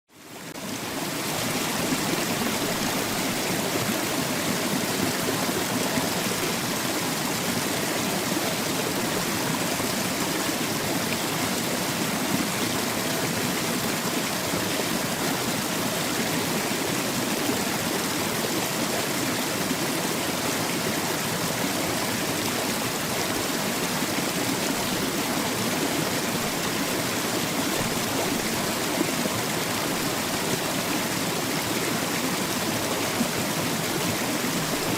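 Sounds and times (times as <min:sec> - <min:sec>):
small waterfall splashing: 0:00.1 - 0:34.9.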